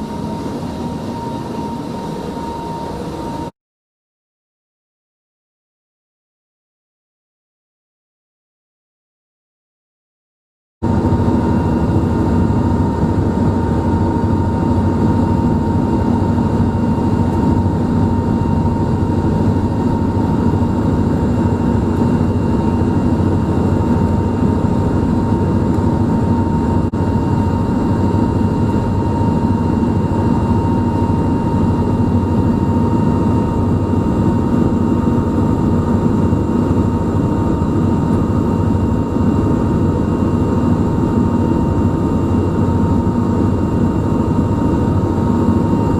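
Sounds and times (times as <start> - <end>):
ferry engine drone: 0.0 - 3.5, 10.9 - 45.9.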